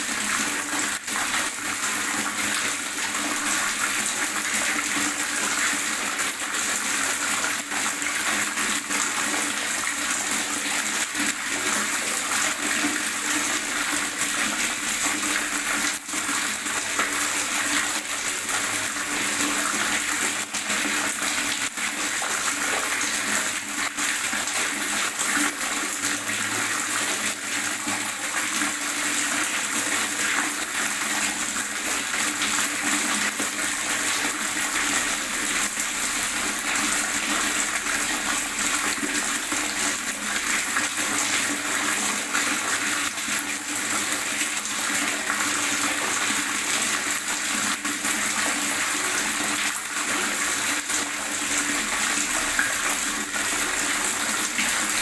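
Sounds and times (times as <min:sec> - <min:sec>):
water gurgling and splashing: 0:00.0 - 0:55.0.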